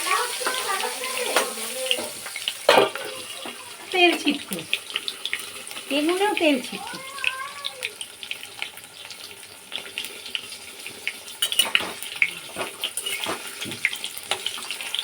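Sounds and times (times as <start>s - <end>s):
slices frying in hot oil: 0.0s - 15.0s.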